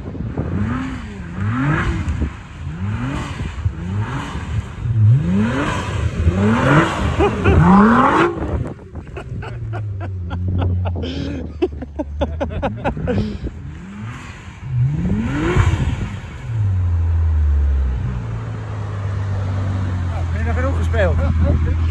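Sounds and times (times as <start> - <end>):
car engine revving: 0.0 - 21.9.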